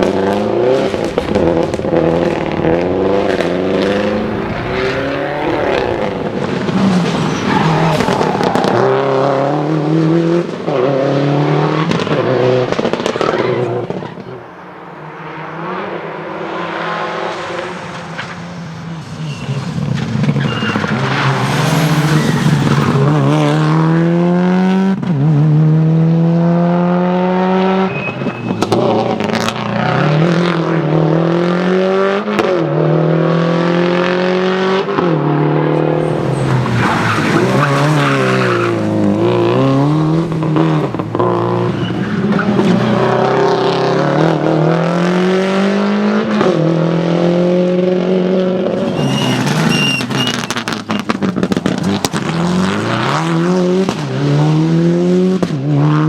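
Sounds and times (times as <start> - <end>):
rally car engines revving hard: 0.0 - 56.0.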